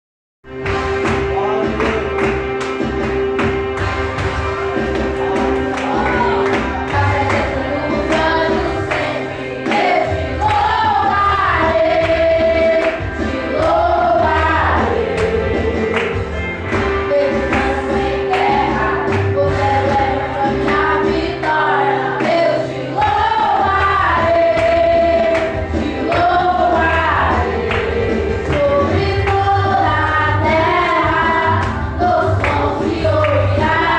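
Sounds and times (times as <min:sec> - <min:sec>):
choir singing gospel song: 0:00.5 - 0:33.9
instrumental backing with beat: 0:00.5 - 0:33.9.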